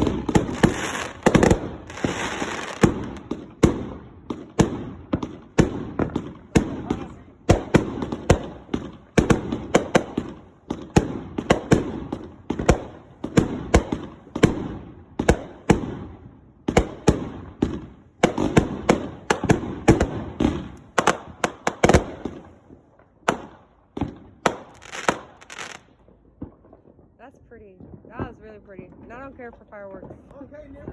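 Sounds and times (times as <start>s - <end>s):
firework bangs: 0.0s - 30.9s.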